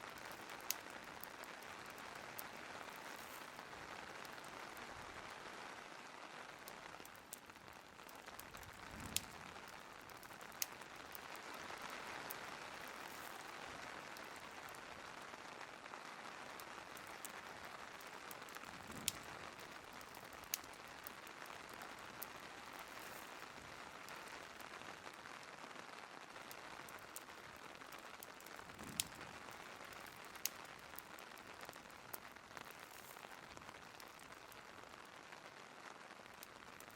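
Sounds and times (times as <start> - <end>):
steady rain: 0.0 - 36.9
wood fire crackling pops: 0.0 - 36.9.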